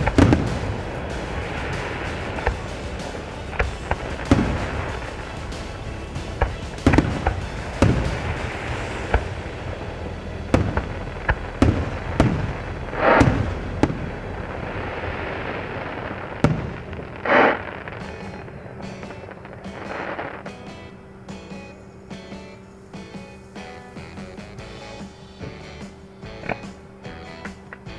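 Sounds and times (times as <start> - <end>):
fireworks bursting: 0.0 - 27.9
rushing fireworks bursts: 0.0 - 27.9.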